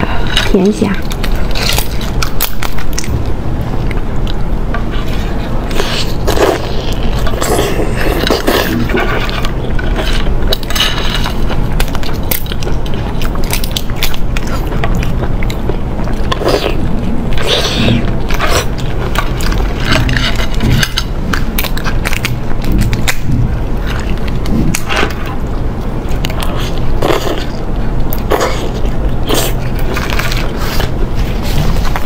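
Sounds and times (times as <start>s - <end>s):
shellfish peeled and chewed: 0.0s - 32.0s.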